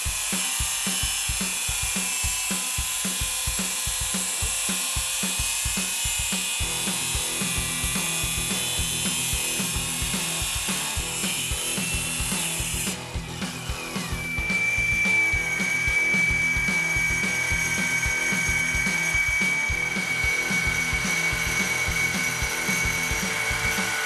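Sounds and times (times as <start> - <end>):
steady high whine: 0.0 - 24.0
stone cutting saw hissing: 0.0 - 24.0.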